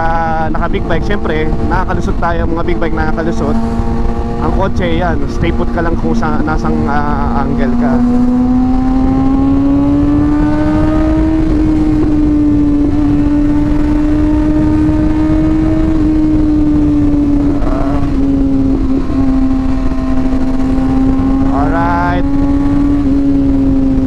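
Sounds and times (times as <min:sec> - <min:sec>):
motorcycle engine cruising: 0:00.0 - 0:24.0
wind noise: 0:00.0 - 0:24.0.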